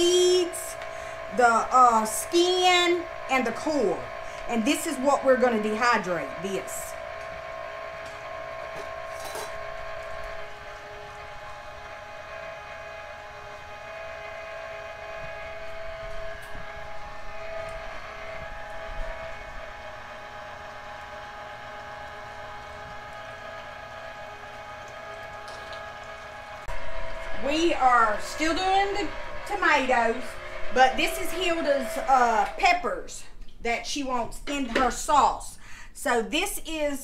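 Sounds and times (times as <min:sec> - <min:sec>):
electric motor humming: 0:00.0 - 0:32.9.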